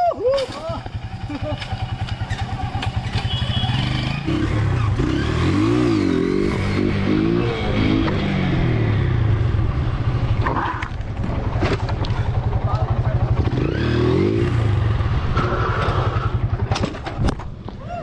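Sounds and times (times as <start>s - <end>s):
motorcycle engine revving: 0.6s - 17.2s.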